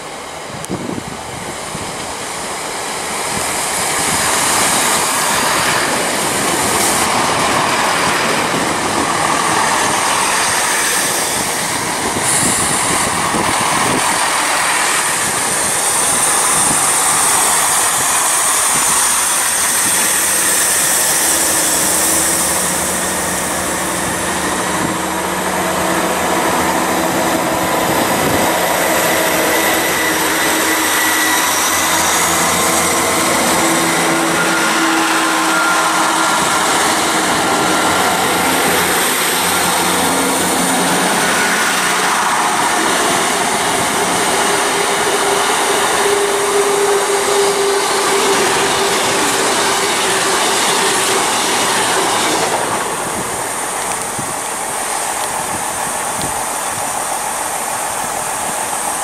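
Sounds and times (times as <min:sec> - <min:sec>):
diesel train engine hum: 0:00.0 - 0:59.0
train wheels rumbling on rails: 0:00.0 - 0:59.0.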